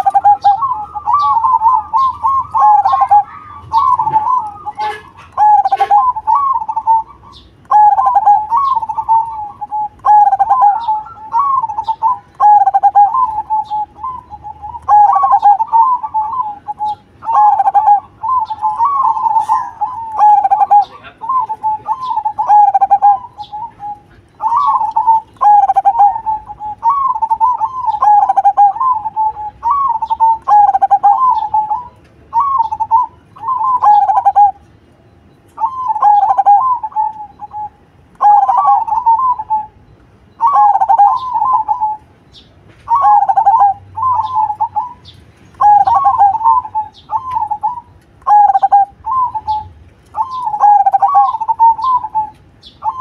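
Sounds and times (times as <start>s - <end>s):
dove cooing: 0.0s - 34.7s, 35.5s - 42.1s, 42.8s - 53.0s.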